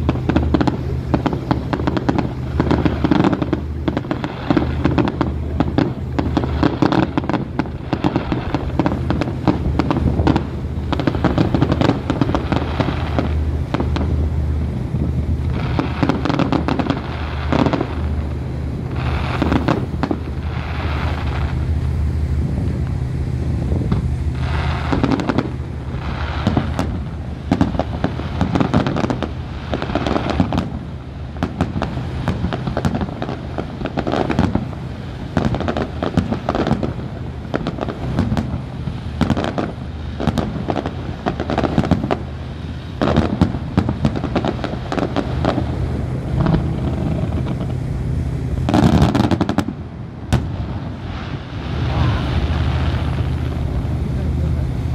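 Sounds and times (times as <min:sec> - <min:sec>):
fireworks bangs and crackles: 0:00.0 - 0:54.9
low hum: 0:00.0 - 0:54.9.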